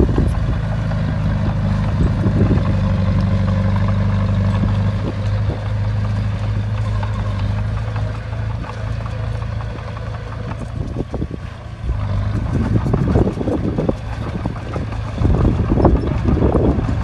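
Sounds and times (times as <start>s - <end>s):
diesel engine humming: 0.0s - 17.0s
rough irregular noise: 0.0s - 17.0s.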